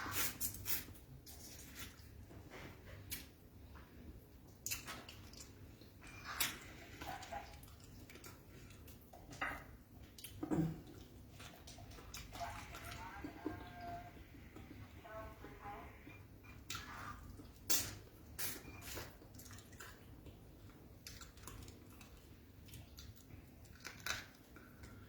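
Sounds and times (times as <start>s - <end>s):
person chewing wetly: 3.1s - 14.8s, 16.4s - 25.0s.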